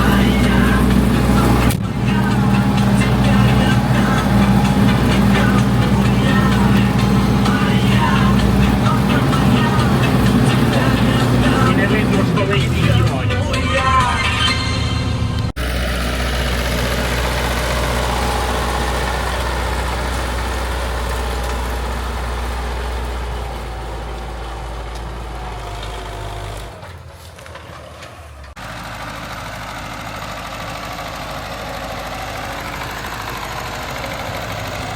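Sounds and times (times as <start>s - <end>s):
old tractor engine running: 0.0s - 34.9s.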